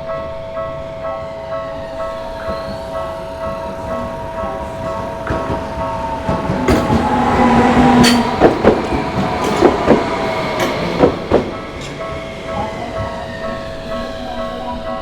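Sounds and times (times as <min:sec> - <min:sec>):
crossing warning bell ringing: 0:00.0 - 0:15.0
train wheels clicking over rail joints: 0:02.3 - 0:14.8.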